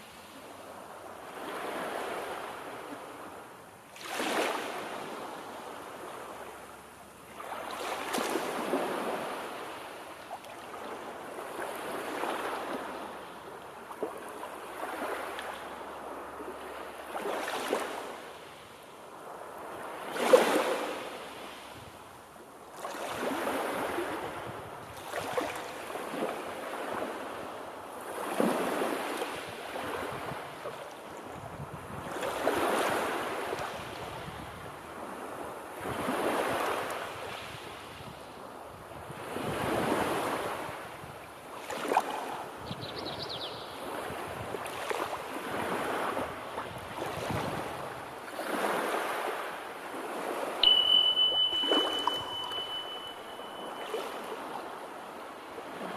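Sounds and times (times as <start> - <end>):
waves breaking on shore: 0.0 - 55.9.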